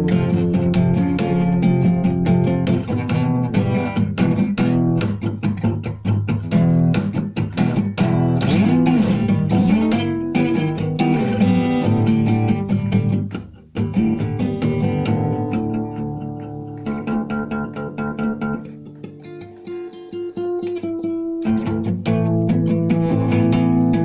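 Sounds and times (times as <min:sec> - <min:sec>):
plucked guitar melody: 0:00.0 - 0:24.0.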